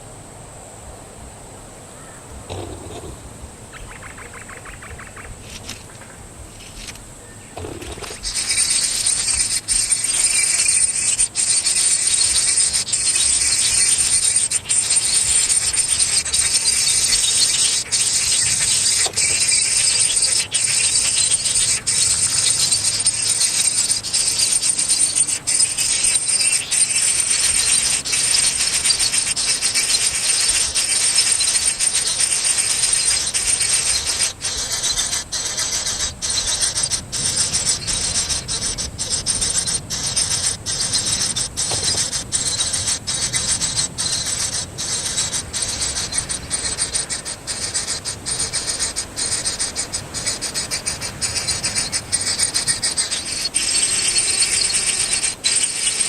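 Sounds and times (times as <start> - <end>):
insect chorus buzzing: 0.0 - 56.0.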